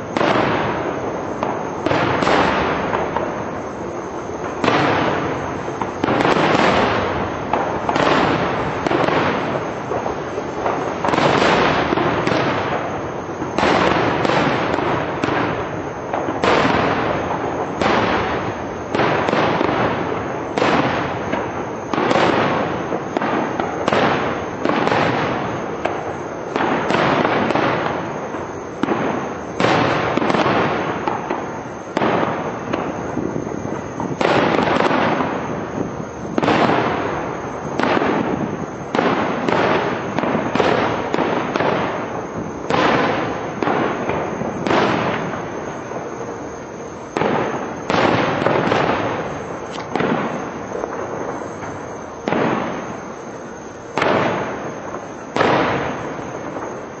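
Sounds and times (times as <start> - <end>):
firework booms: 0.0 - 57.0.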